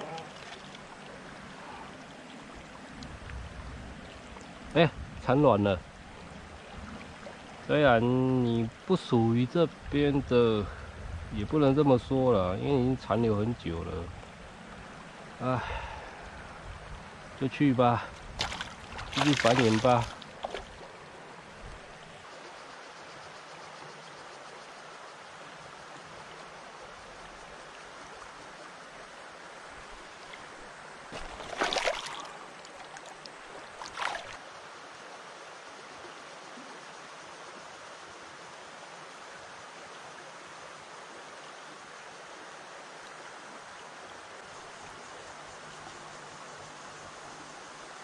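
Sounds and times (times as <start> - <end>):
stream running over cobbles: 0.0 - 10.8, 11.4 - 22.6, 24.8 - 48.0.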